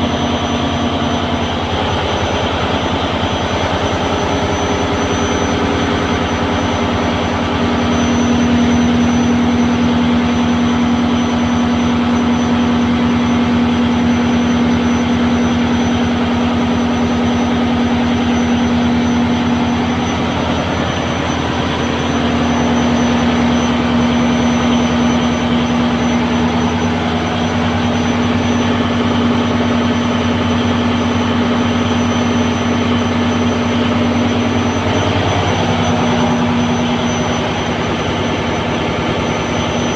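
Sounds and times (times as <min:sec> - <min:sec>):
boat diesel engine drone: 0:00.0 - 0:39.9.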